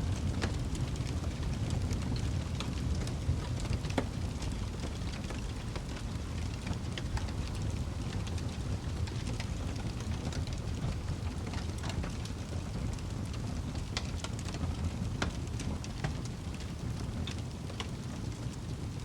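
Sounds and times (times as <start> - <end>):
wood fire flames rumbling: 0.0 - 19.0
fire pops and snaps: 0.1 - 19.0.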